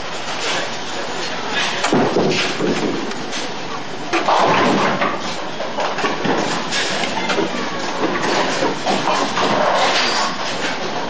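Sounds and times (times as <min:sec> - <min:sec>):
faint voices: 0:00.2 - 0:04.4, 0:05.2 - 0:11.0
bowling balls rumbling: 0:01.0 - 0:11.0.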